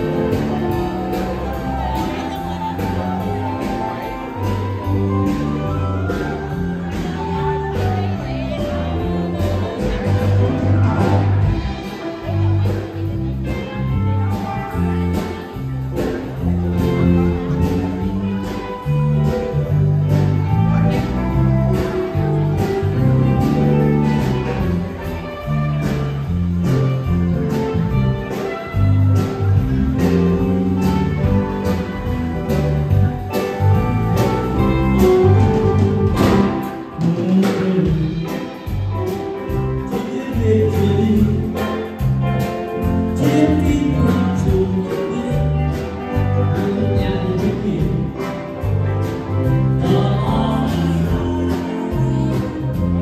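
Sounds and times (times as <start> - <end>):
live band playing upbeat song: 0.0 - 53.0
person singing: 0.0 - 53.0.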